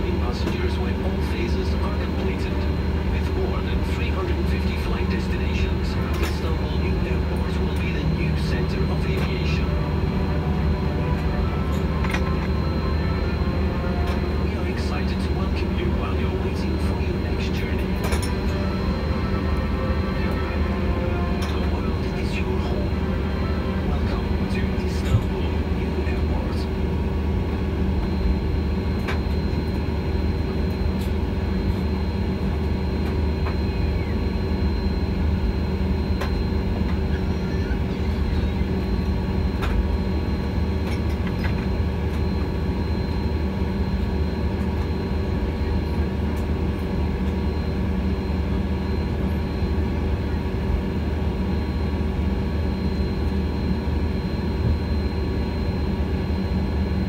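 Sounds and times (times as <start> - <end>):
high whine: 0.0 - 57.0
jet engine rumble: 0.0 - 57.0.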